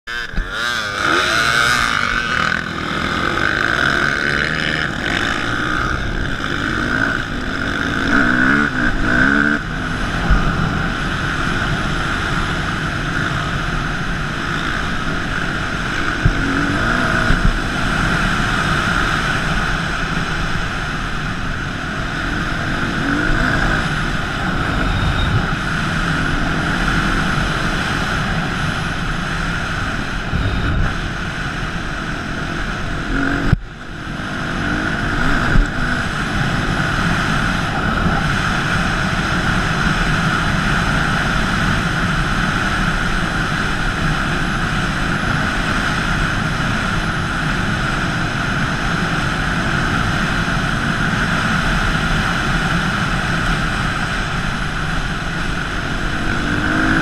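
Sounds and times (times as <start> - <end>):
dirt bike engines revving: 0.1 - 57.0
rush of wind noise: 0.1 - 57.0.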